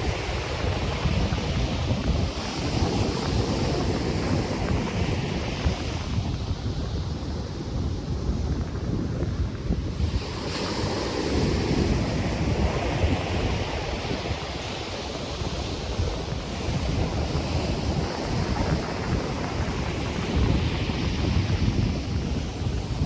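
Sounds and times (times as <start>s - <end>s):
ocean surf washing onto beach: 0.0s - 23.0s
wind buffeting microphone: 0.0s - 23.0s
wind in palm trees: 0.0s - 23.0s.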